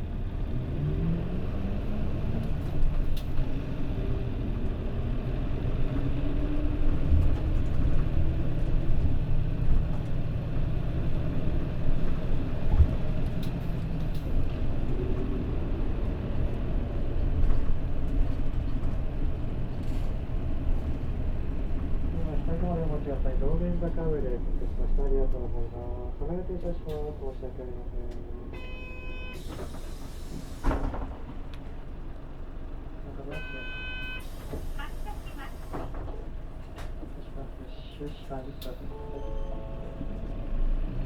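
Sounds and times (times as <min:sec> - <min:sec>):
bus diesel engine: 0:00.0 - 0:41.0
low road rumble: 0:00.0 - 0:41.0.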